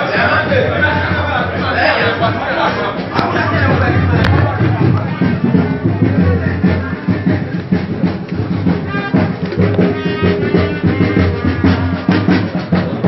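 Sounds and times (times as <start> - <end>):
loud music with drums: 0.0 - 13.0.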